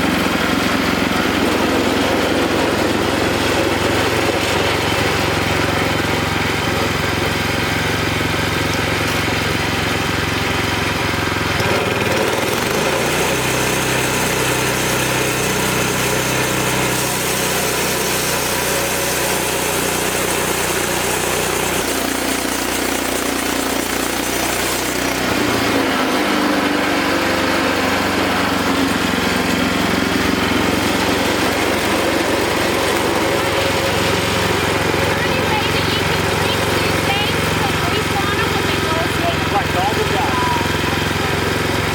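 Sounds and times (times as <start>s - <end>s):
sawmill gas engine running: 0.0s - 41.9s.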